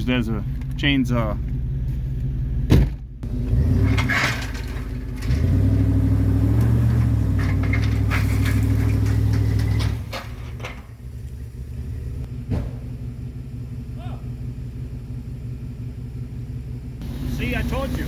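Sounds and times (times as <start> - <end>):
truck engine working hard: 0.0 - 18.0.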